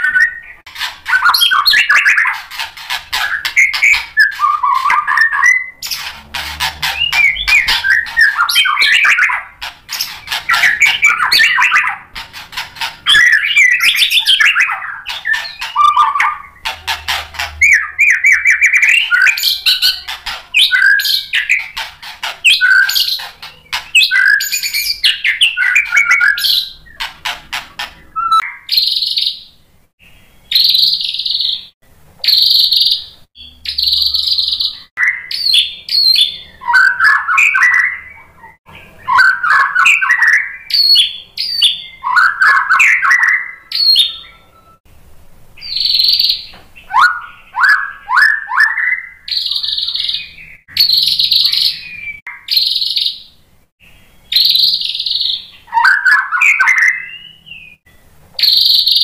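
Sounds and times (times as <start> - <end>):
songbird singing whistles and trills: 0.0 - 2.4, 3.1 - 6.1, 6.8 - 12.2, 13.0 - 16.7, 17.6 - 21.8, 22.4 - 27.0, 28.1 - 44.8, 45.6 - 59.0.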